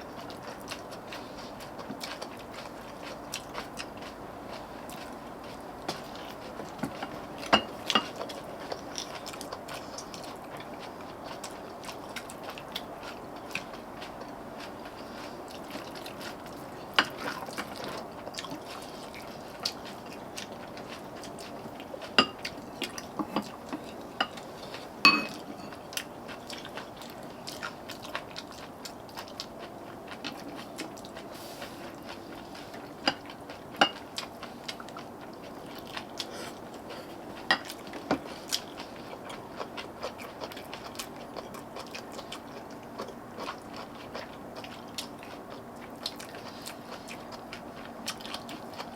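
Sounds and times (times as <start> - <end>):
chewing: 0.0 - 48.9.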